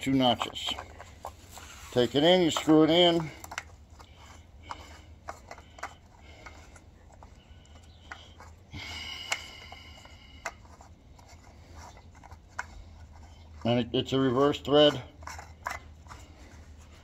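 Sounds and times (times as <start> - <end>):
plastic spool clicking: 0.2 - 8.6, 9.2 - 13.8, 14.4 - 16.5.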